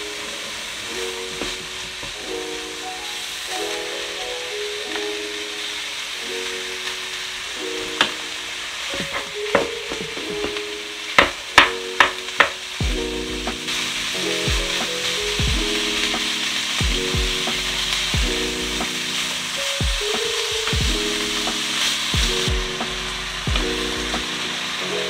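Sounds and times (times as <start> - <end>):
meat sizzling in a frying pan: 0.0 - 25.0.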